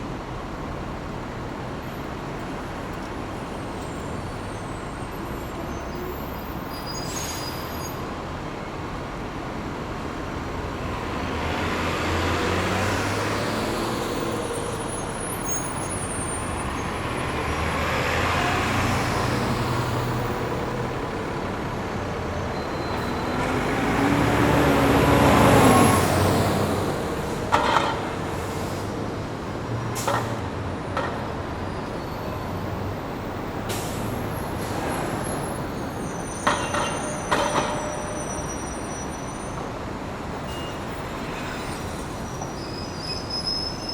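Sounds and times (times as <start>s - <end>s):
bus engines running and passing: 0.0s - 43.9s.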